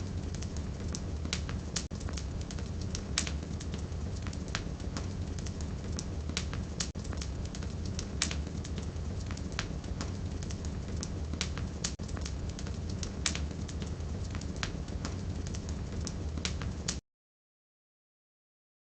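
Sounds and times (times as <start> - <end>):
fire burning low rumble: 0.0 - 17.0
firewood crackling and popping: 0.0 - 17.0.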